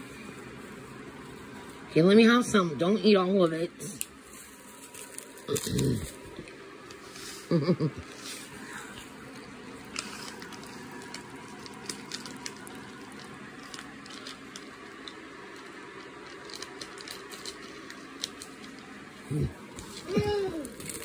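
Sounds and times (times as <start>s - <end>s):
room fan humming: 0.0s - 21.0s.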